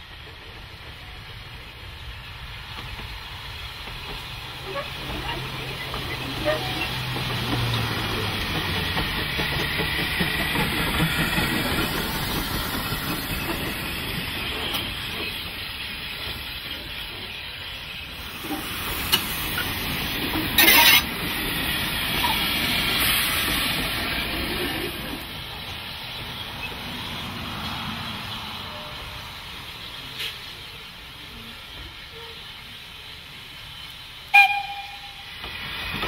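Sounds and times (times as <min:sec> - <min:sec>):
steam hissing: 0:00.0 - 0:36.0
steam train running: 0:00.0 - 0:36.0.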